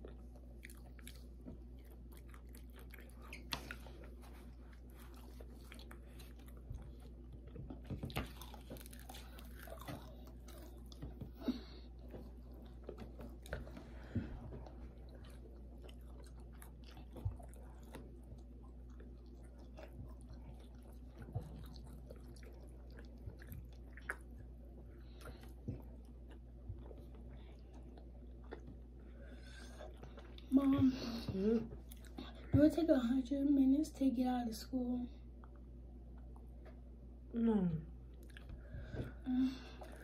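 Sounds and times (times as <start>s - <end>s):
chewing with small crunches: 0.0s - 33.8s, 35.2s - 37.1s, 38.0s - 40.0s
low steady hum: 0.0s - 40.0s.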